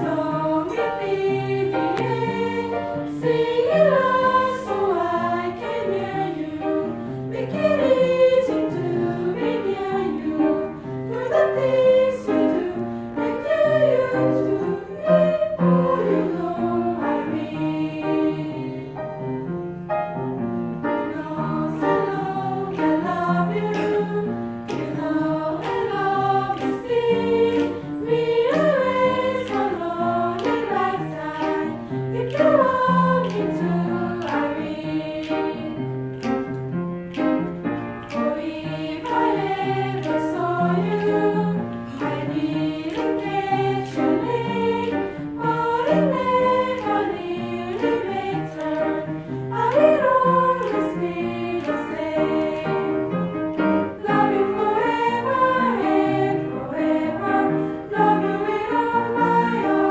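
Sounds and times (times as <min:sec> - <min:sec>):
girls choir singing: 0:00.0 - 0:19.5, 0:20.7 - 0:36.5, 0:37.1 - 0:59.9.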